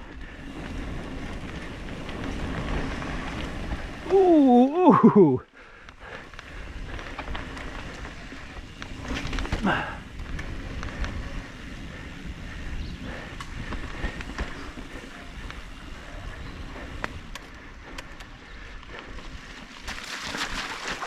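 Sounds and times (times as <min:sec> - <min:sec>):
bike clicks and rattles: 0:00.0 - 0:21.0.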